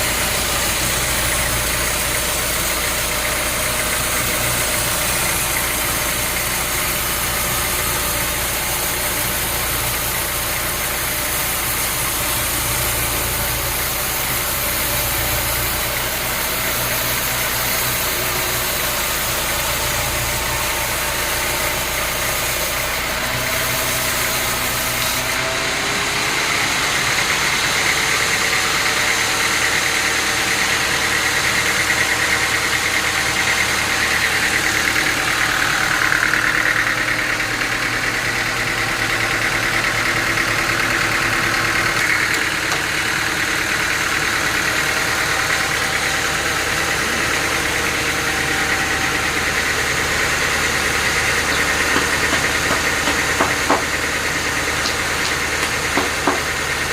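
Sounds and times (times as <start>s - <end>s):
high-pitched machine whine: 0.0s - 56.9s
sawmill machinery running: 0.0s - 56.9s.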